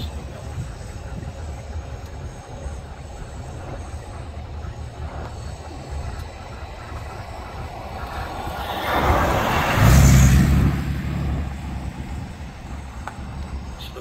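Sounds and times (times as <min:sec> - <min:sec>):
car road and wind noise: 0:00.0 - 0:14.0
truck passing rumble: 0:00.0 - 0:14.0.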